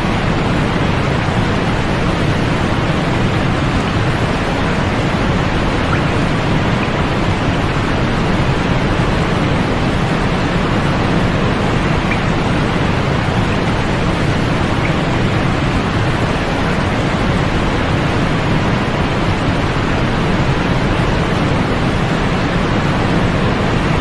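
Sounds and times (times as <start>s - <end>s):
steady white noise hiss: 0.0s - 24.0s.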